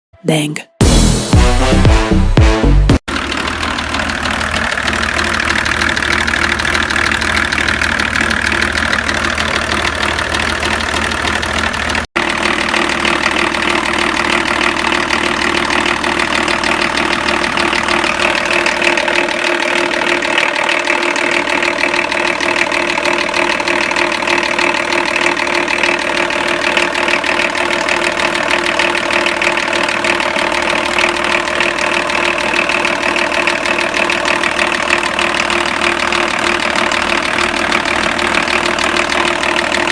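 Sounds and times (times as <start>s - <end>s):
diesel engine idling: 3.1s - 39.9s
engine knocking: 3.1s - 39.9s.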